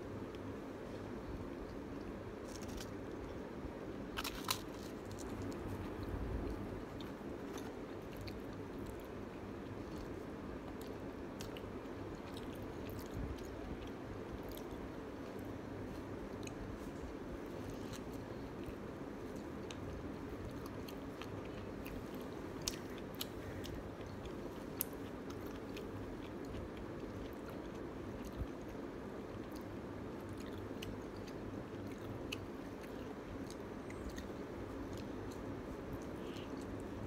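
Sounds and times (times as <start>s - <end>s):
low background hum: 0.0s - 37.0s
chewing pizza crust: 0.2s - 37.0s.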